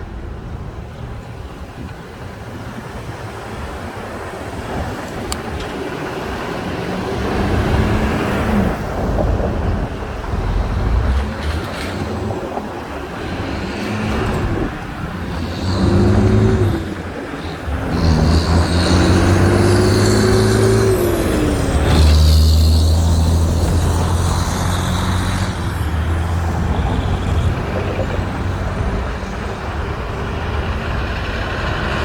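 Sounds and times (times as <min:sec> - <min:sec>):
tyre and road noise: 0:00.0 - 0:32.0
vehicle engines passing: 0:00.0 - 0:32.0.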